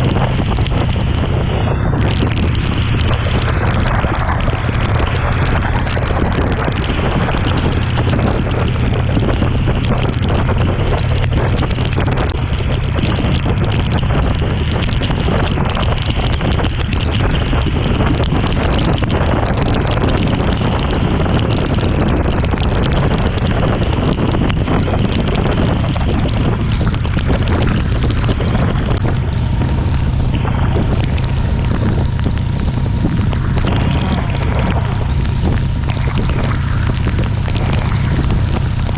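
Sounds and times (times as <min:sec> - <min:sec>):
heavy rain: 0:00.0 - 0:38.9
motorcycle engine: 0:00.0 - 0:38.9
wind buffeting microphone: 0:00.0 - 0:38.9.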